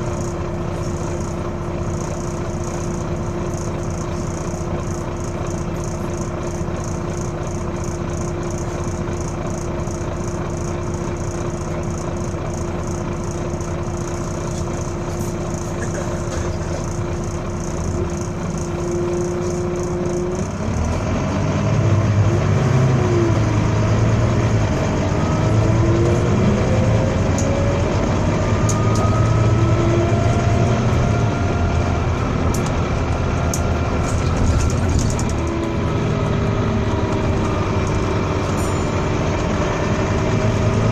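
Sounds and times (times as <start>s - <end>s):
engine ticking: 0.0s - 21.5s, 22.9s - 40.9s
bus accelerating with whining wail: 0.0s - 40.9s
bus diesel engine idling: 0.0s - 40.9s.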